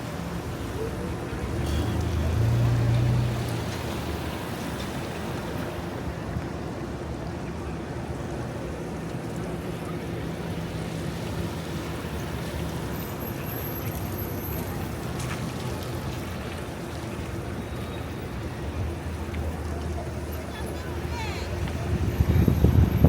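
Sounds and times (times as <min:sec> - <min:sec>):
rain: 0:00.0 - 0:23.0
traffic on wet street: 0:00.0 - 0:23.0.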